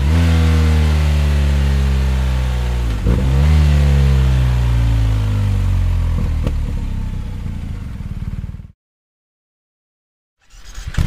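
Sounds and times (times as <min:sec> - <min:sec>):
motorcycle engine revving and idling: 0:00.0 - 0:08.8, 0:10.4 - 0:11.0.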